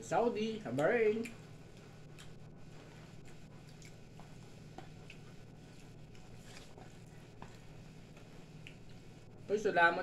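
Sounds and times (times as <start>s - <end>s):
low steady hum: 0.0s - 10.0s
chewing: 0.7s - 9.1s.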